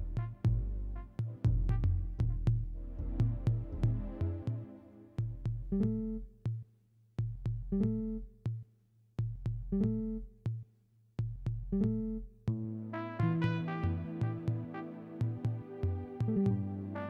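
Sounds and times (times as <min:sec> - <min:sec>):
electronic beat with bass: 0:00.0 - 0:06.6, 0:07.2 - 0:08.6, 0:09.2 - 0:10.6, 0:11.2 - 0:16.9.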